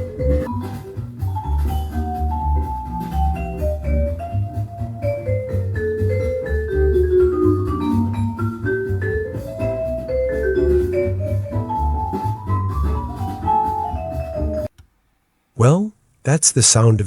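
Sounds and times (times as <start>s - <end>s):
bell-like melody notes: 0.0s - 14.7s
jazz record with bass line: 0.0s - 14.7s.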